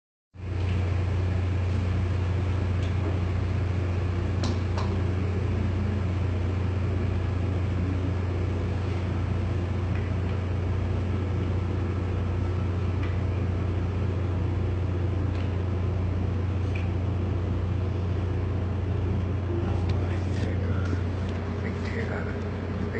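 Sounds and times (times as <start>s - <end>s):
machine humming: 0.4s - 22.9s.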